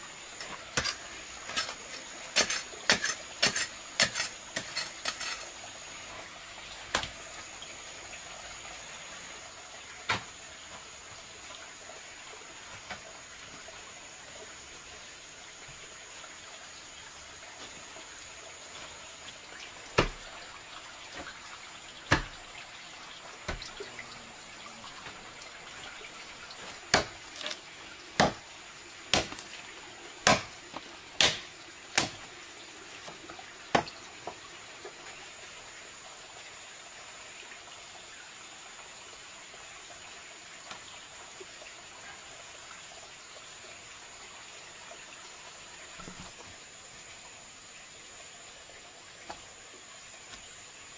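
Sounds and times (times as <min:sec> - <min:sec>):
steady background hiss: 0:00.0 - 0:50.9.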